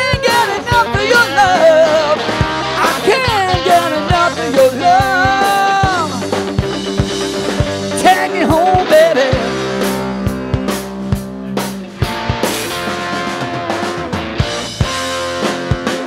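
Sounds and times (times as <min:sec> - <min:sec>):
drum kit beating: 0:00.0 - 0:16.0
electric guitar: 0:00.0 - 0:16.0
live rock band playing: 0:00.0 - 0:16.0
pitch-bending guitar lead notes: 0:00.0 - 0:16.0.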